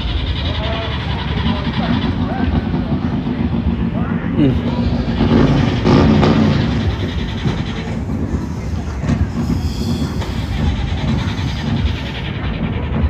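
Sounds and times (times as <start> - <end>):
rough motor vehicle engine: 0.0 - 13.0.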